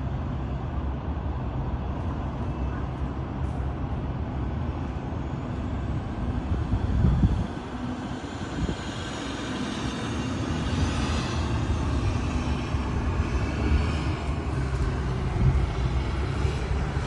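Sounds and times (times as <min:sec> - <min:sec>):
city noise: 0:00.0 - 0:17.0
low wind: 0:00.0 - 0:17.0.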